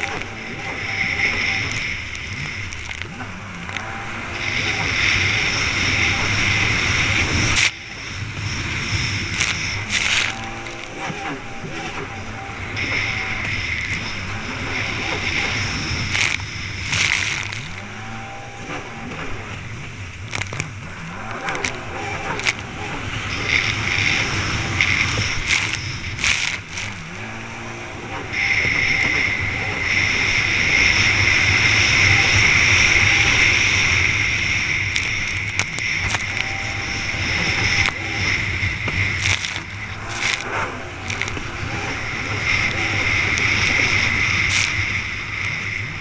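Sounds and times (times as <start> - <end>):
jet ski engine: 0.0 - 46.0
rushing water and spray: 0.0 - 46.0.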